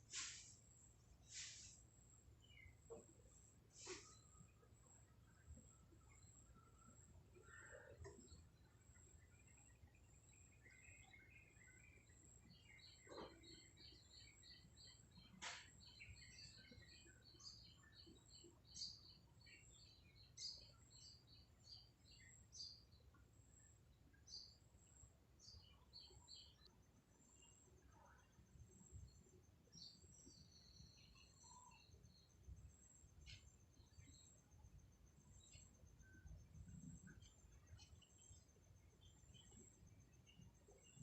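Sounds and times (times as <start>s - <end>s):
small birds chirping faintly: 0.0s - 41.0s.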